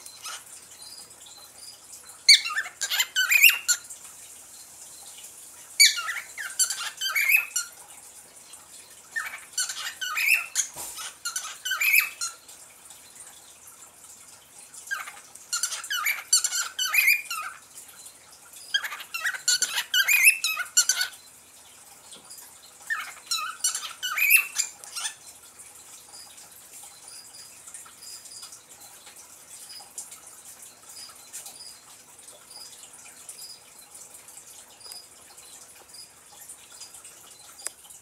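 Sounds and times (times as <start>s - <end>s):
parrot chirping and chattering: 0.0s - 7.8s, 8.6s - 12.5s, 14.7s - 37.8s.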